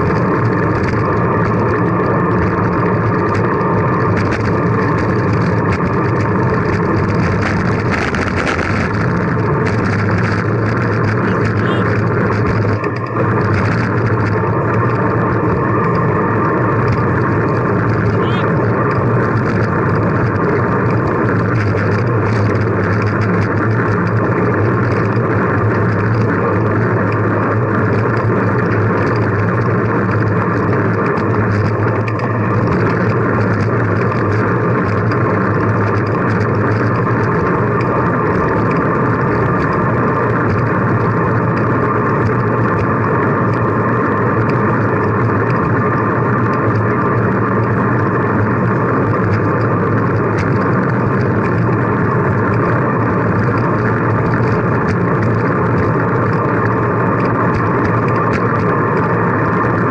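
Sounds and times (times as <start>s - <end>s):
constant low hum: 0.0s - 59.9s
road noise: 0.0s - 59.9s.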